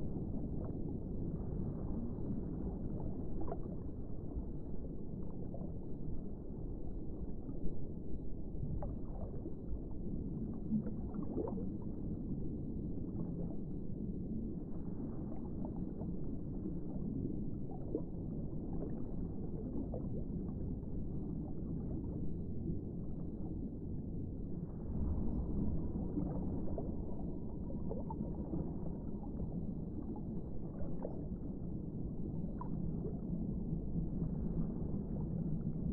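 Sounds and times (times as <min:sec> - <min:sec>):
muffled underwater rumble: 0:00.0 - 0:35.9.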